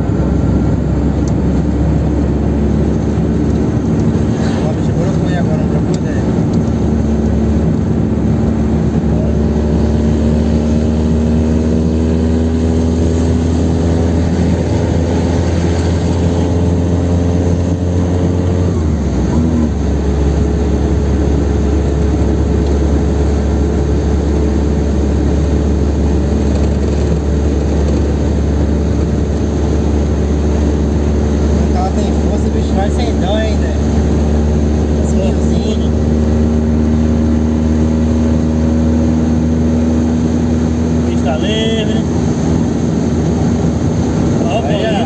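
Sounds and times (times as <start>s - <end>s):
car engine running: 0.0s - 45.0s
road noise drone: 0.0s - 45.0s.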